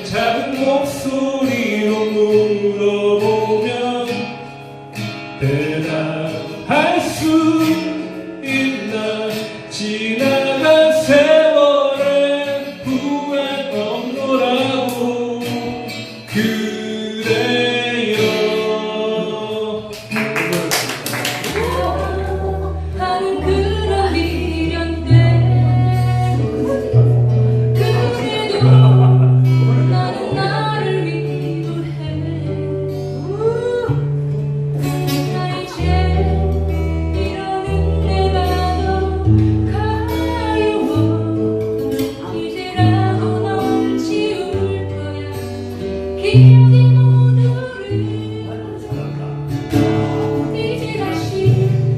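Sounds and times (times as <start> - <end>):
acoustic guitars strumming: 0.0 - 51.9
person singing: 5.4 - 34.2, 34.8 - 51.9.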